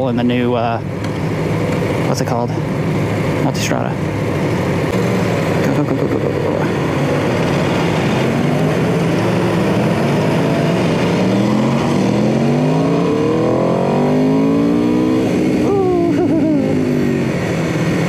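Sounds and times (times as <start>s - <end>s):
motorcycle engine accelerating: 2.8s - 18.0s.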